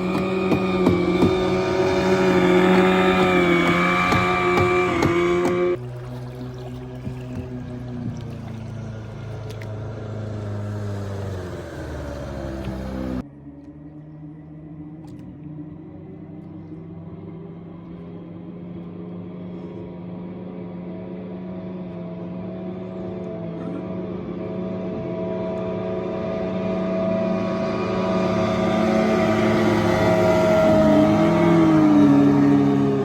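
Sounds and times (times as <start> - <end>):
outboard boat motor running: 0.0 - 33.0.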